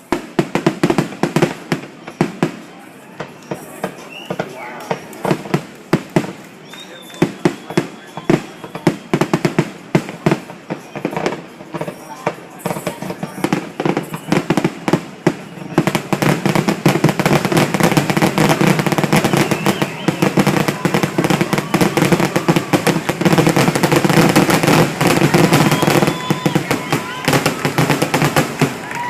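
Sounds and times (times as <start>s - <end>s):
fireworks crackling bangs: 0.0s - 29.0s.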